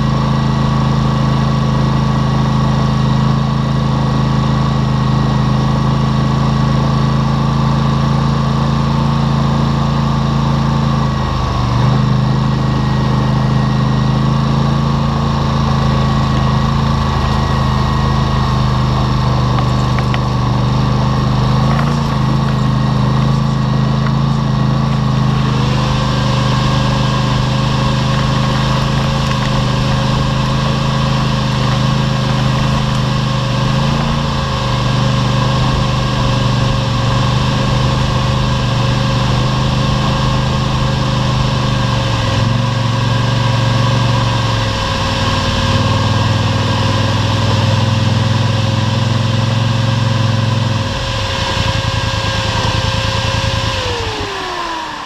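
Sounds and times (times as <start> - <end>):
atv engine running: 0.0 - 55.0
thin steady whine: 10.0 - 55.0.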